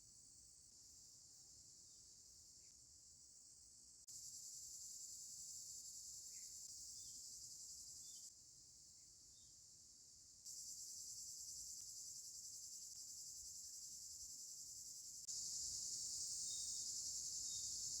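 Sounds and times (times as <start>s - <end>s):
high-pitched insect chorus: 0.1s - 18.0s.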